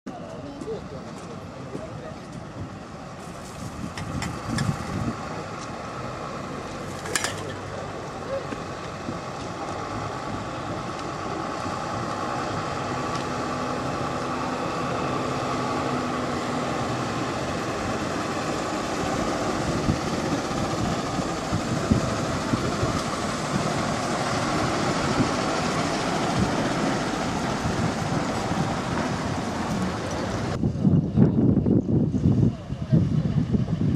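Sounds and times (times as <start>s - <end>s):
truck diesel engine driving past: 0.2s - 33.9s.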